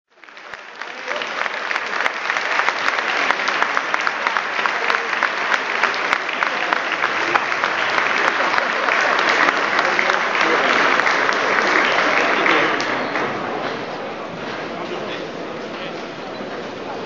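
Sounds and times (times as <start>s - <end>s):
crowd applauding: 0.1s - 15.4s.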